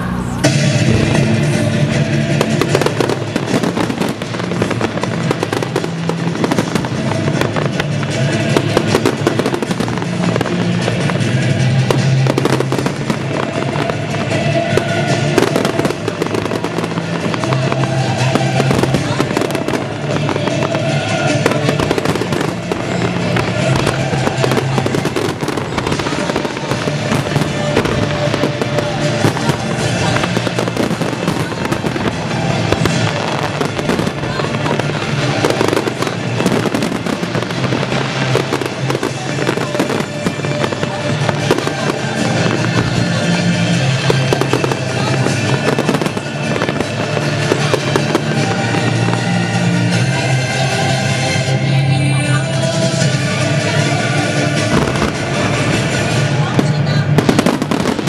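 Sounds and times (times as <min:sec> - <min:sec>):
music: 0:00.0 - 0:58.0
fireworks bangs and crackles: 0:00.4 - 0:58.0.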